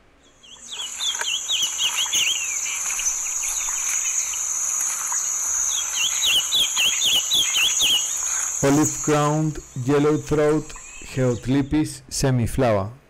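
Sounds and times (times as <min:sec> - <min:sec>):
bird song of short sweeping notes: 0:00.2 - 0:11.7
high-pitched insect trill: 0:00.5 - 0:11.5.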